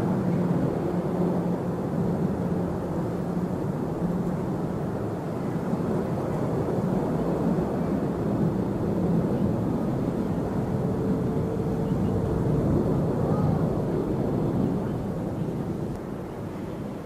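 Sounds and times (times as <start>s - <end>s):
faint hum: 0.0s - 17.0s
jet engines rumbling: 0.0s - 17.0s.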